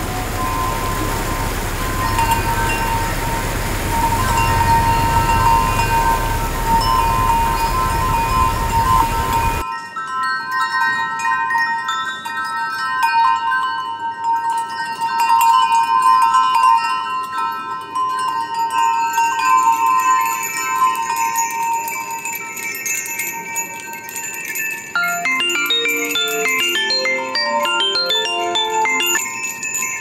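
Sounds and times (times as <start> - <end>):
ringing chimes and bells: 0.0 - 30.0.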